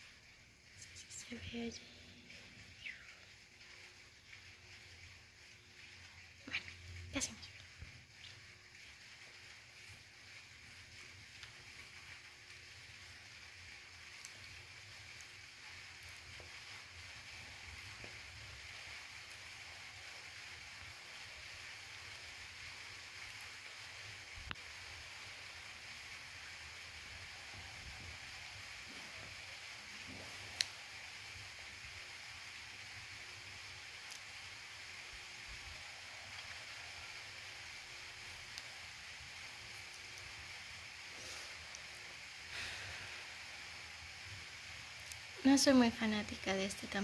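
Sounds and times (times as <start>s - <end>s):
faint background hiss: 0.0s - 47.0s.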